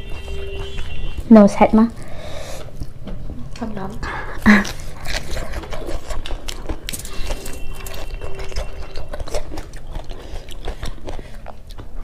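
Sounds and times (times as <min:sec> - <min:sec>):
people chewing and smacking: 0:00.0 - 0:12.0.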